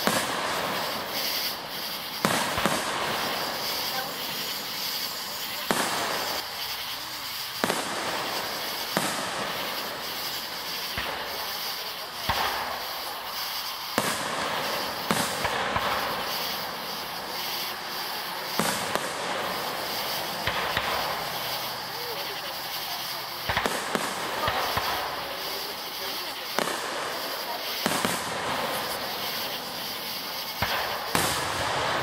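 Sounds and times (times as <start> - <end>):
background hiss: 0.0 - 32.0
fireworks booms: 0.0 - 32.0.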